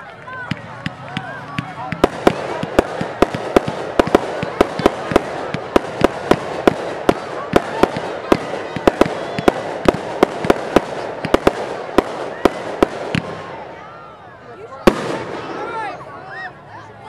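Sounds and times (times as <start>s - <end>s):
firework cake reports: 0.0s - 17.0s.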